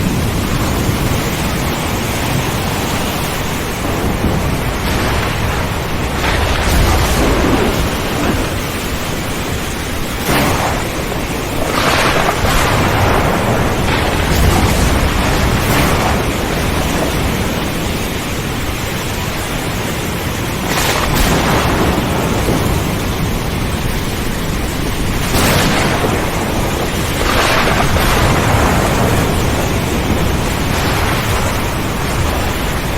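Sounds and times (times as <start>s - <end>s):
sharp thunder cracks: 0.0s - 18.8s, 20.3s - 32.9s
heavy rain: 0.0s - 32.9s
thunder: 0.0s - 32.9s.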